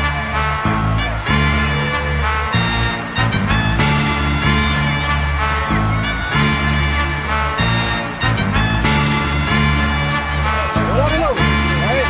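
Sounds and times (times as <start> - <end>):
instrumental music with heavy bass: 0.0 - 12.0.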